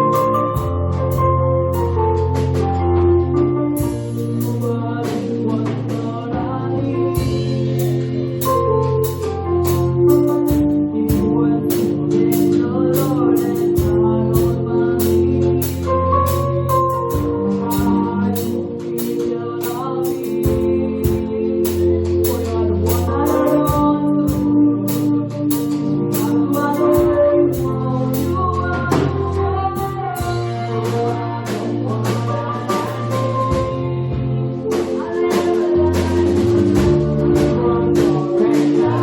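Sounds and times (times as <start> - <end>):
drum kit steady beat: 0.0 - 39.0
gospel choir singing a hymn: 0.0 - 39.0
sustained organ chords: 0.0 - 39.0.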